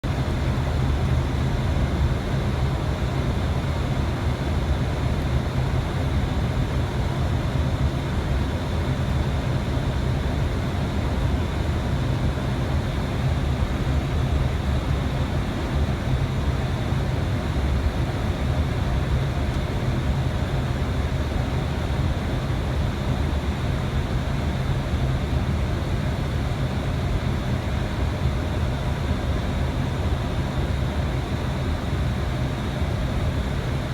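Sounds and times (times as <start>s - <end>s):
rush of air in cockpit: 0.0s - 33.9s.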